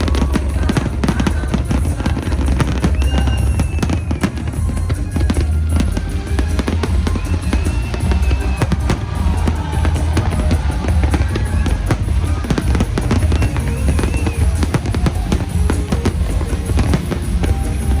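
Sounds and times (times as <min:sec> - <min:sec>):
fireworks bangs and crackling: 0:00.0 - 0:18.0
music playing: 0:00.0 - 0:18.0.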